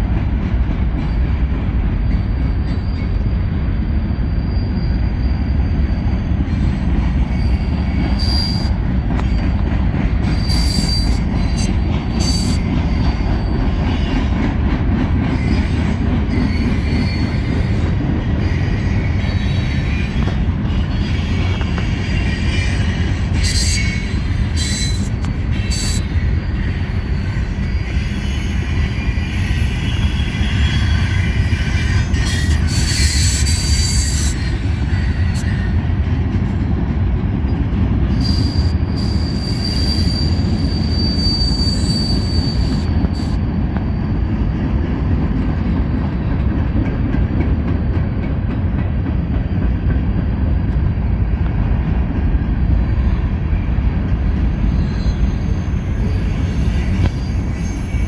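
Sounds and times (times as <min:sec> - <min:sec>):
freight train rumbling past: 0:00.0 - 0:58.0
train wheels squealing: 0:00.7 - 0:36.7, 0:37.4 - 0:44.8, 0:47.4 - 0:51.3, 0:52.2 - 0:58.0.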